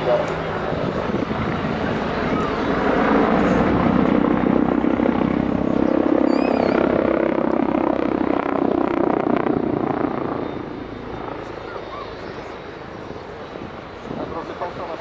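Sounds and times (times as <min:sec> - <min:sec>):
helicopter rotor beating: 0:00.0 - 0:15.0
helicopter turbine noise: 0:00.0 - 0:15.0.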